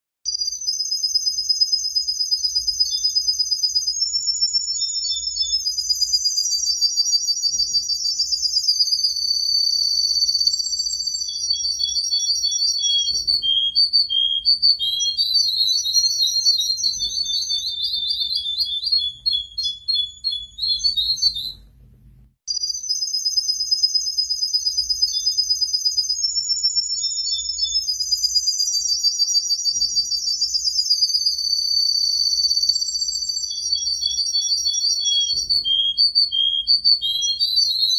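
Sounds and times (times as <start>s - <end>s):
canary singing trills: 0.3s - 21.6s, 22.5s - 37.9s.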